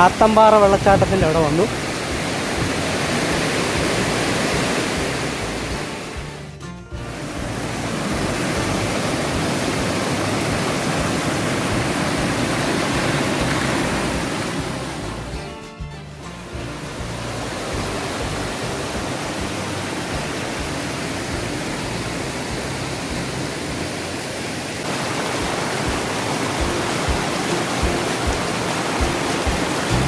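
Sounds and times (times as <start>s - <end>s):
waterfall rushing over rocks: 0.0s - 6.4s, 7.0s - 15.3s, 16.4s - 30.0s.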